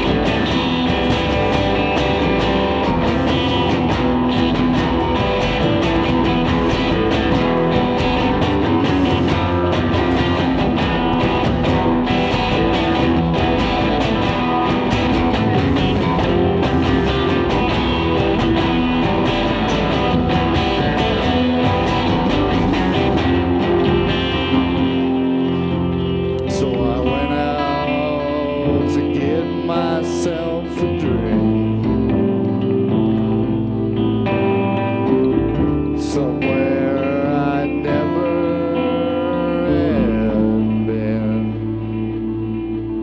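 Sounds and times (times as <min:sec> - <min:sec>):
guitar fast picking: 0:00.0 - 0:43.0.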